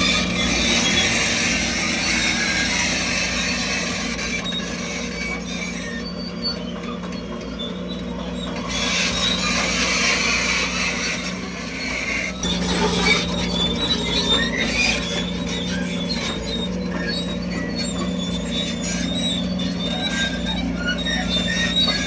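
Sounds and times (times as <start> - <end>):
bulldozer diesel engine: 0.0 - 22.0
metallic track squeaks: 0.0 - 22.0.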